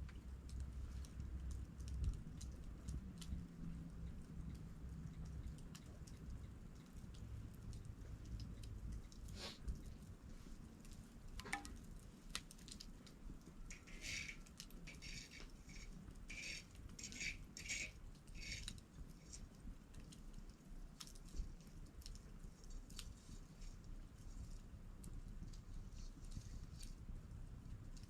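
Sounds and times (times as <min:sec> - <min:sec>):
campfire crackling and popping: 0:00.0 - 0:28.0
low rumble of fire: 0:00.0 - 0:28.0.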